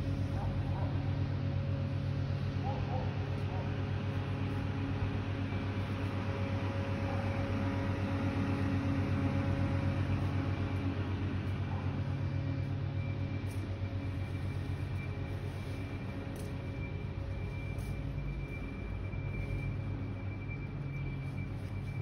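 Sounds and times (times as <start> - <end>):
low pulsing mechanical hum: 0.0 - 22.0.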